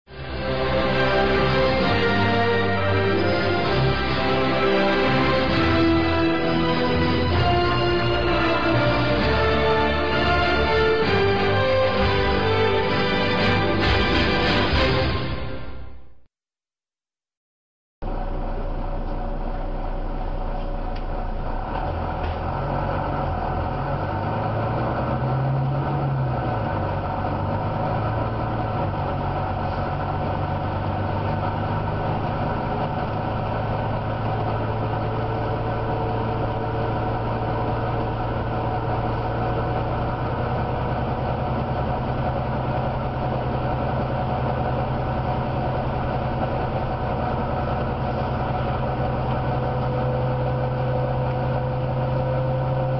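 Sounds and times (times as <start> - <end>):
bus diesel engine growling: 0.1 - 16.0, 18.0 - 52.9.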